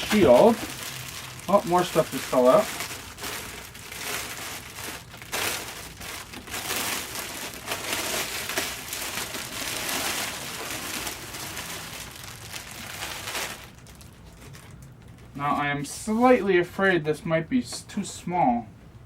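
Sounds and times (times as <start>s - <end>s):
packing material crinkling: 0.0s - 16.4s.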